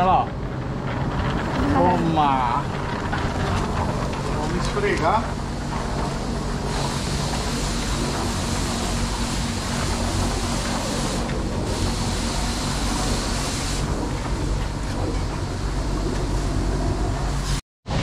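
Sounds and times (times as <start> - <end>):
pump machinery humming: 0.0 - 18.0.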